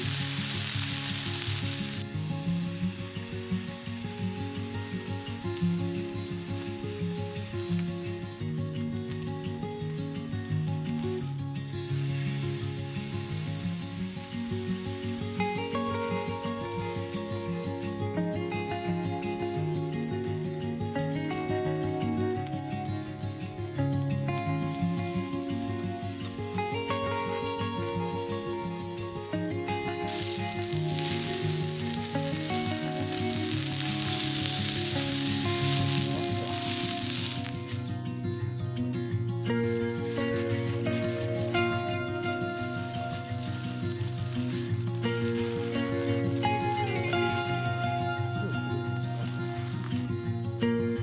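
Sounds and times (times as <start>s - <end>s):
background music: 0.0s - 51.0s
beef sizzling on a grill: 0.0s - 51.0s.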